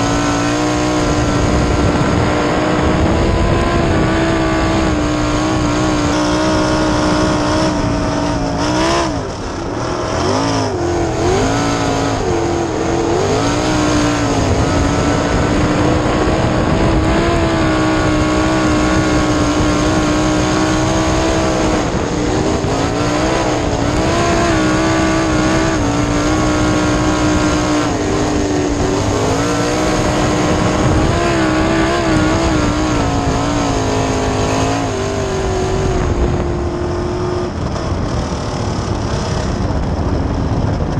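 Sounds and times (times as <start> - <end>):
racing car engine: 0.0 - 40.9.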